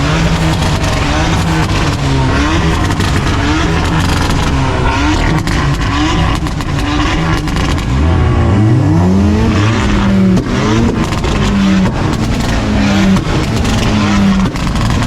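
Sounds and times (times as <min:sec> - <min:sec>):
exhaust crackling pops: 0:00.0 - 0:08.0, 0:09.4 - 0:15.0
car exhaust revving: 0:00.0 - 0:15.0.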